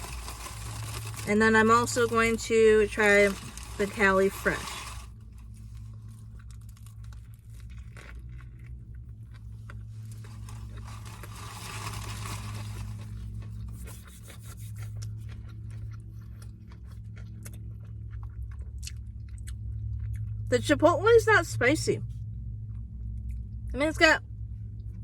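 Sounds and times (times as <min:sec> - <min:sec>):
person chewing sandwich: 0:00.0 - 0:20.5, 0:22.4 - 0:23.7
steady low hum: 0:00.0 - 0:25.0.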